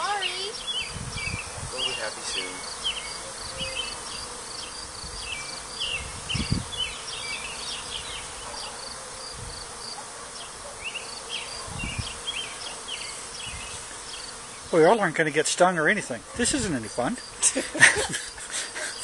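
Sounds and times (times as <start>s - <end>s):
bee swarm buzzing: 0.0s - 19.0s.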